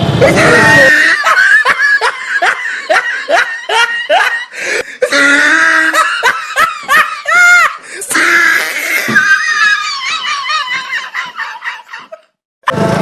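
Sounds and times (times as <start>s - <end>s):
comic laughing sound effect: 0.3s - 12.9s.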